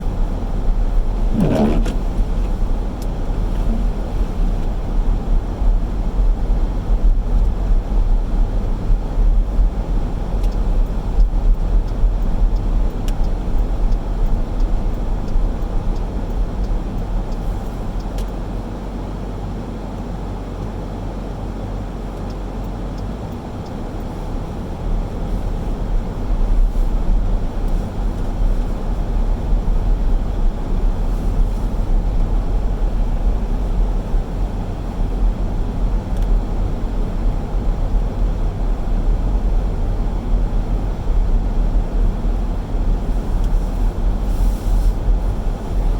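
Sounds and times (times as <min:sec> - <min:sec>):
car engine rumble: 0:00.0 - 0:45.9
tyre road noise: 0:00.0 - 0:45.9.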